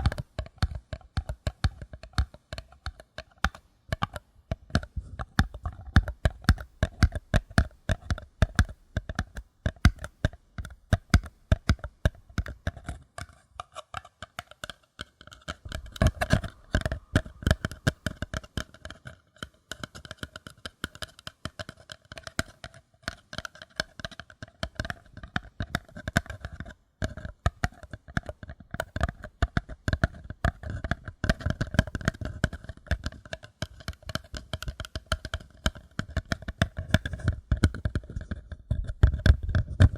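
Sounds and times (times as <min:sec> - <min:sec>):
fingers tapping paper cups: 0:00.0 - 0:39.9.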